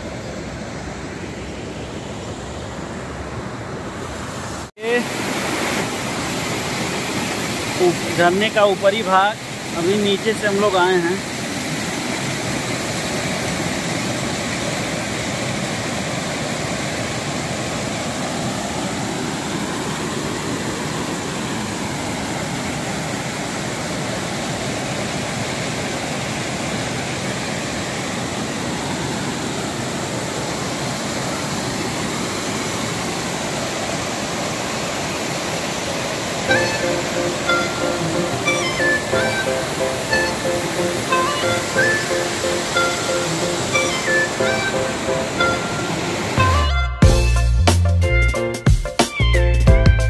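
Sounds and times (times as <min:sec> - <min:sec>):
waterfall rushing over rocks: 0:03.2 - 0:46.7.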